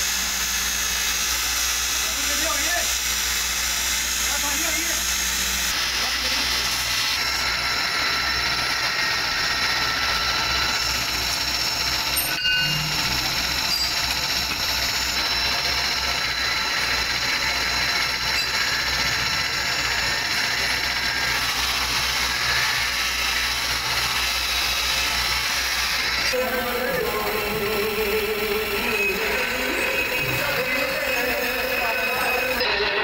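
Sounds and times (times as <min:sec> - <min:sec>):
grinding wheel whining on steel: 0:00.0 - 0:33.0.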